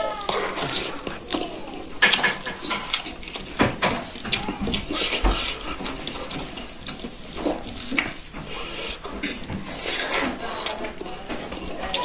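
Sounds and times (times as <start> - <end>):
person chewing with wet smacking: 0.1 - 12.0.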